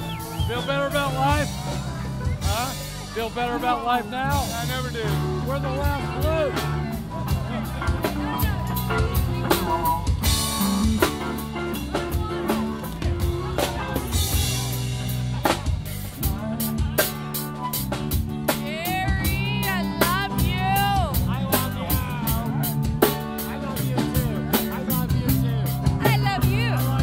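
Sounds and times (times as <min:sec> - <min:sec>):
drum kit beat: 0:00.0 - 0:27.0
live band playing: 0:00.0 - 0:27.0.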